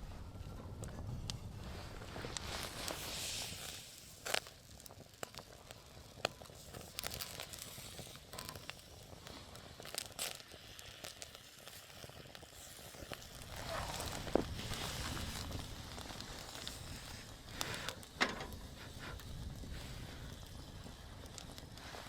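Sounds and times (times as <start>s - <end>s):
campfire crackling: 0.0s - 22.0s
fire popping: 0.0s - 22.0s.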